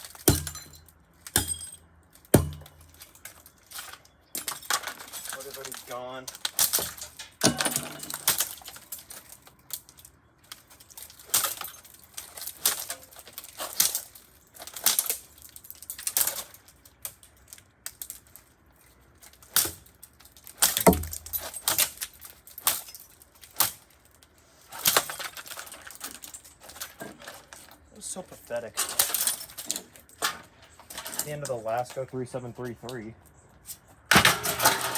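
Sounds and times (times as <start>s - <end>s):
metallic clanks and rattles: 0.0s - 16.6s, 19.4s - 23.8s, 24.7s - 27.9s, 28.6s - 32.1s, 34.1s - 34.9s.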